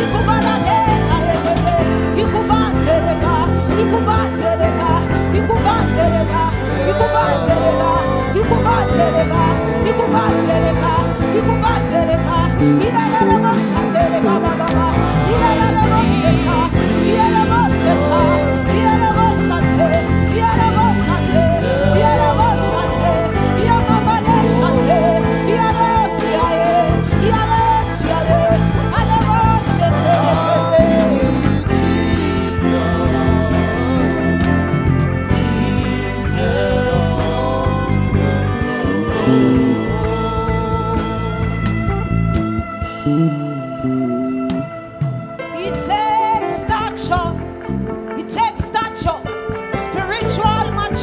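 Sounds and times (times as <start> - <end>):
worship band playing: 0.0 - 51.0.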